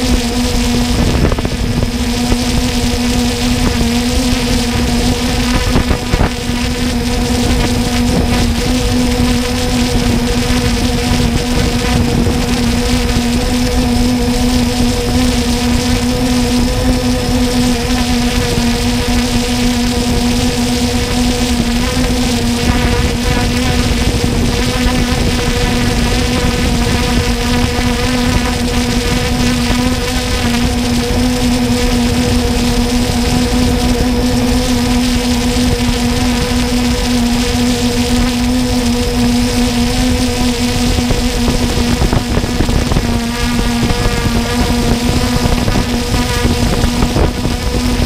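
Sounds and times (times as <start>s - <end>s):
drone propellers buzzing: 0.0s - 48.0s
wind on microphone: 0.0s - 48.0s.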